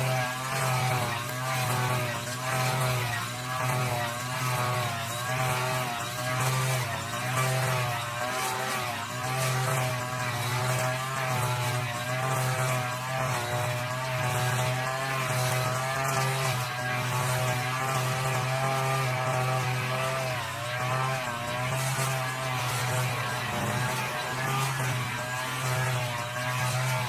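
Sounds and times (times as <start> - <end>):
brush cutter engine running: 0.0 - 27.0.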